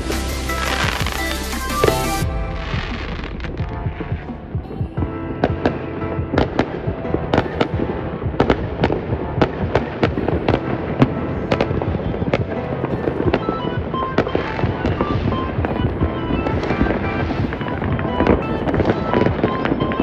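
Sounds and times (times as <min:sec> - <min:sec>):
fireworks bangs and cracks: 0:00.0 - 0:20.0.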